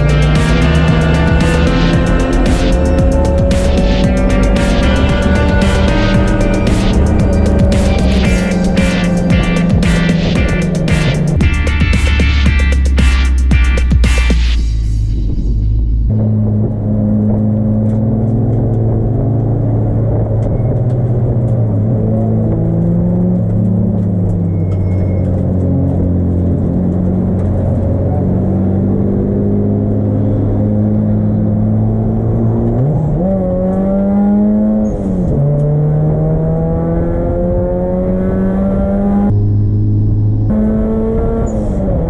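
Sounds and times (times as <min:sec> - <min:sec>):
race car engine revving: 0:00.0 - 0:24.4, 0:25.4 - 0:42.0.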